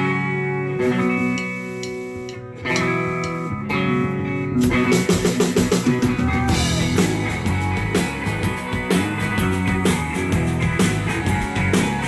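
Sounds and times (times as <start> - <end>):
live rock band playing: 0.0 - 12.0
ringing guitar chords: 0.0 - 12.0.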